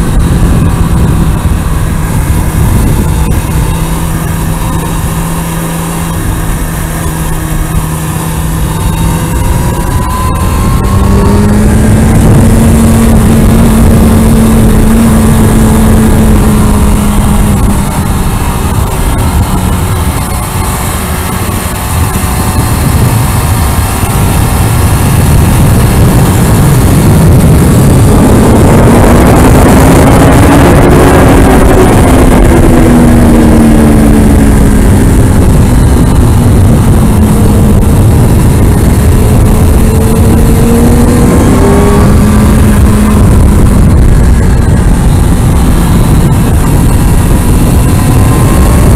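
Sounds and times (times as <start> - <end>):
heavy wind rush: 0.0 - 48.9
motorcycle engine revving: 0.0 - 48.9.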